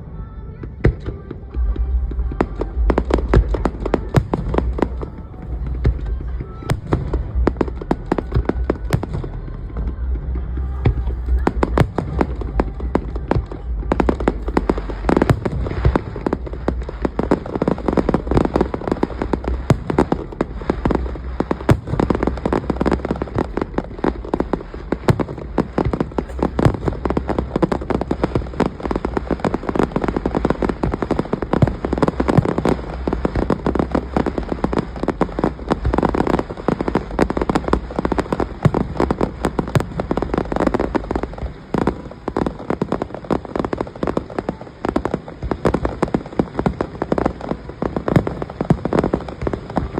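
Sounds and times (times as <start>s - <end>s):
fireworks banging: 0.0s - 49.9s.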